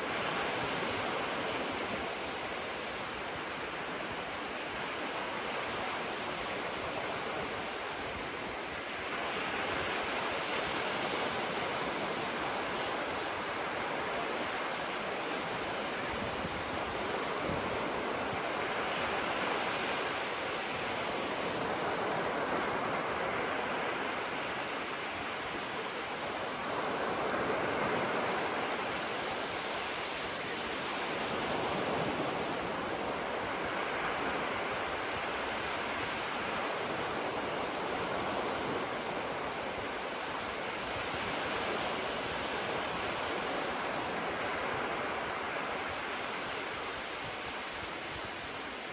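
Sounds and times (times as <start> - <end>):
gentle waves breaking on shore: 0.0 - 48.9.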